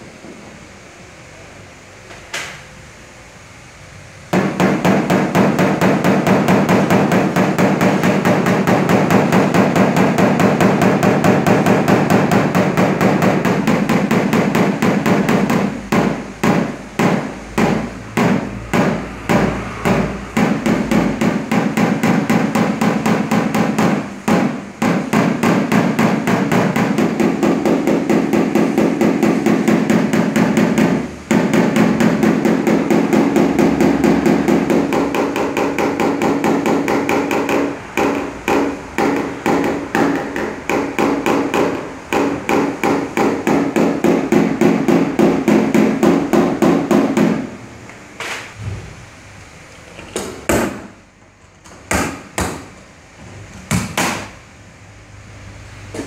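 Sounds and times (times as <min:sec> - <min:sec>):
hammer tapping on sheet metal: 0:04.3 - 0:47.5, 0:50.1 - 0:51.0, 0:51.6 - 0:52.8, 0:53.6 - 0:54.4.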